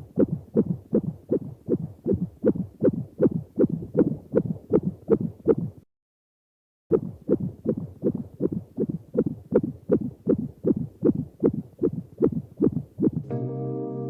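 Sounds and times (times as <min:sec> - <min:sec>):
fetal heartbeat whooshing pulses: 0:00.0 - 0:05.9, 0:06.9 - 0:13.3.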